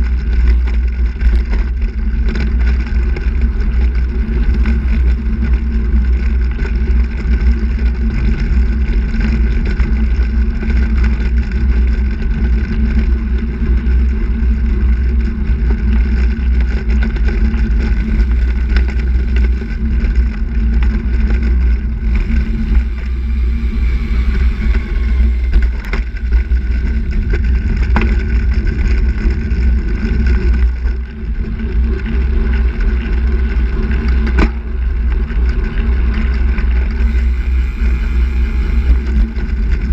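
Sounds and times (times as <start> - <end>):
tyres rolling on asphalt: 0.0 - 39.9
wind buffeting microphone: 0.0 - 39.9.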